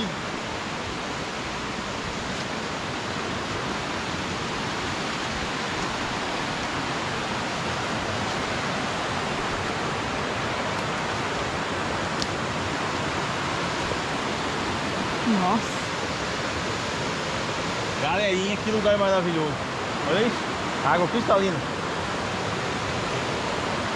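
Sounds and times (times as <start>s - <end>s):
river water rushing over rapids: 0.0s - 23.9s.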